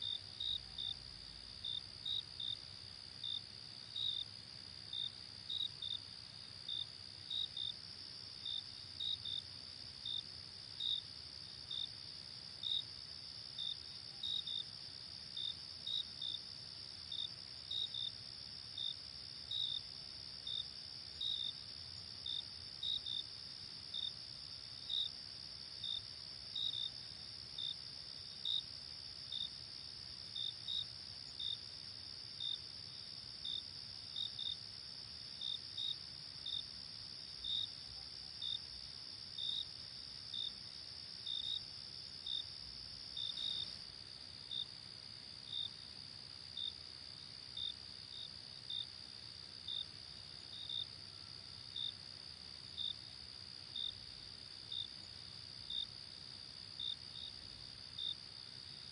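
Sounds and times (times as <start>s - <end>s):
cricket chirps: 0.0s - 58.9s.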